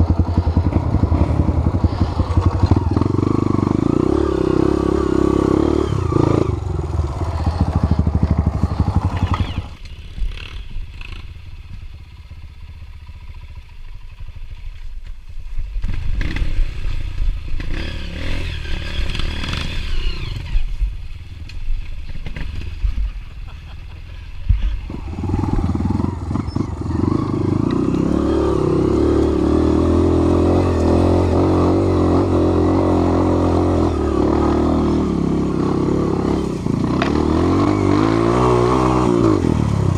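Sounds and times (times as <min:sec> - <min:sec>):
motorcycle engine running: 0:00.0 - 0:21.4, 0:24.3 - 0:39.9.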